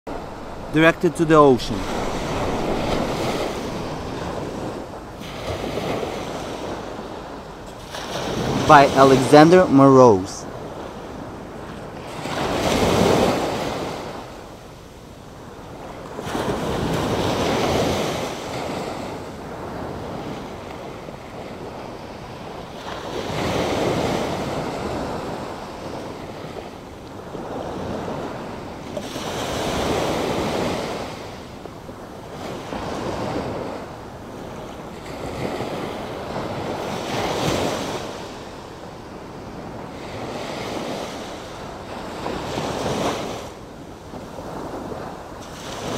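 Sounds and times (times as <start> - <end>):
ocean waves washing on shore: 0.1 - 45.9.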